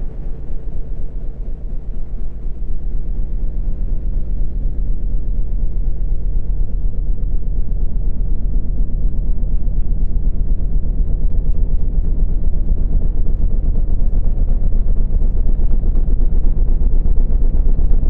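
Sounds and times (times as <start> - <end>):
deep synthetic rumbling: 0.0 - 18.0.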